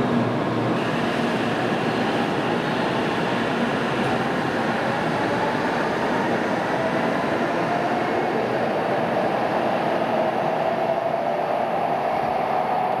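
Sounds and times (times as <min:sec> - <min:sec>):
train rushing rumble: 0:00.0 - 0:13.0.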